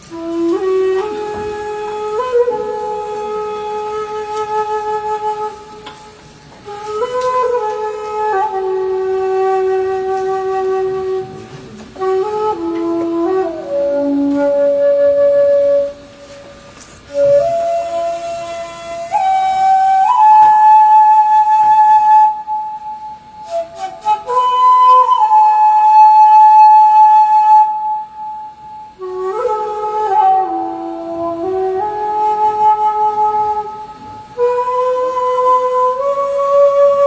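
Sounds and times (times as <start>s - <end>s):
bamboo flute slow melody: 0.0s - 37.0s.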